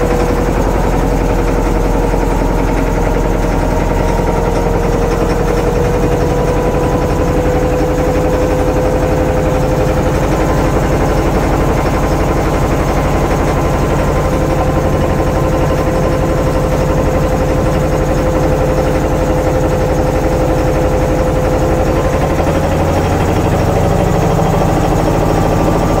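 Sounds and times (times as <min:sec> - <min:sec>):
boat engine running: 0:00.0 - 0:26.0
steady whine: 0:00.0 - 0:26.0.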